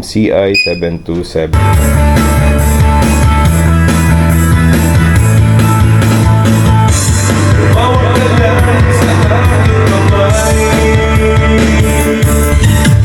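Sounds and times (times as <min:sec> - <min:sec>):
rock song with singing: 0:01.6 - 0:13.0.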